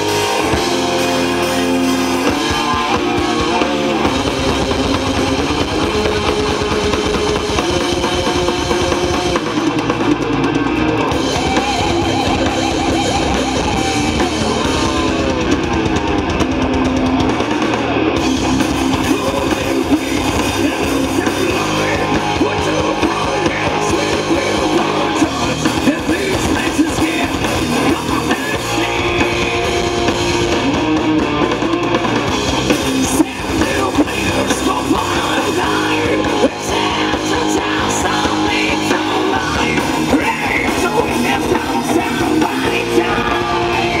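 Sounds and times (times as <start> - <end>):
drum kit: 0.0 - 44.0
electric guitar: 0.0 - 44.0.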